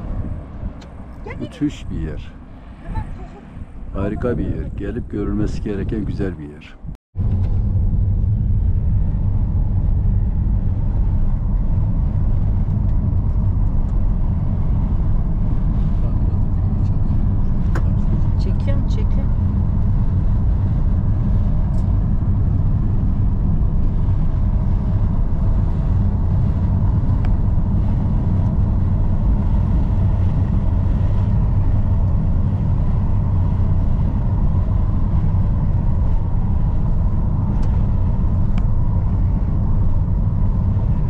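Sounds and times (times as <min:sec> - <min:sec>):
wind noise: 0:00.0 - 0:41.0
car engine: 0:07.2 - 0:41.0.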